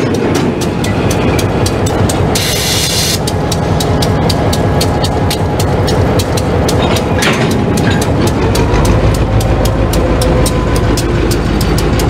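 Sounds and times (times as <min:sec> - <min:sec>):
diesel locomotive engine drone: 0:00.0 - 0:12.0
rapid regular clicking: 0:00.0 - 0:12.0.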